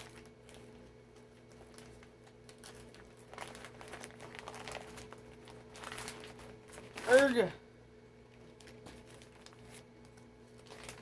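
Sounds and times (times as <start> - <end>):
packaging crinkling and rustling: 0.0 - 7.5, 8.3 - 11.0
low electrical hum: 0.0 - 11.0.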